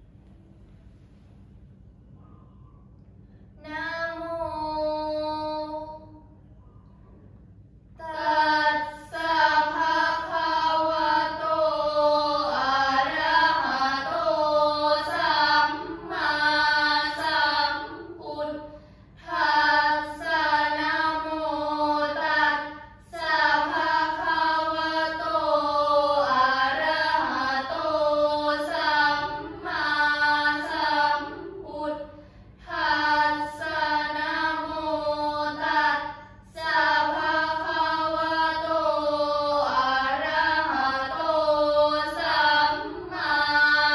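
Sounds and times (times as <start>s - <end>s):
girls chanting in unison: 3.6s - 6.2s, 8.0s - 43.9s.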